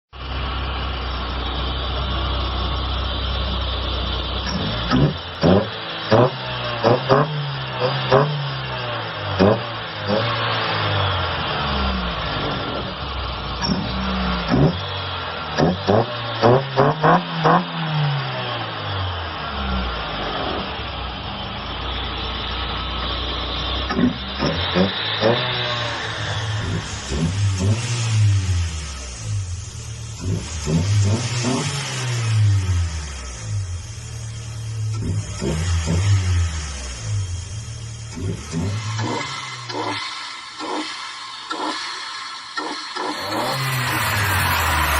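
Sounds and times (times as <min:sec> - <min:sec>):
car engine revving: 0:00.2 - 0:44.9.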